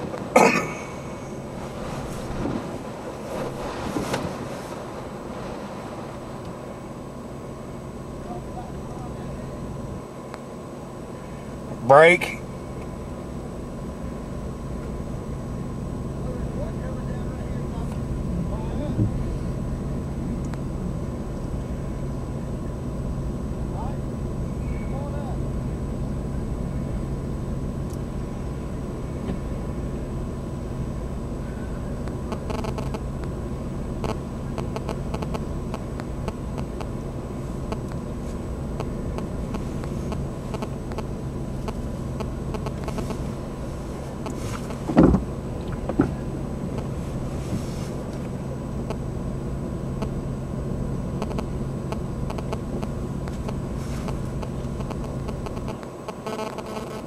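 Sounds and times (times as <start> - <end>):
vehicle engine hum: 0.0 - 57.0.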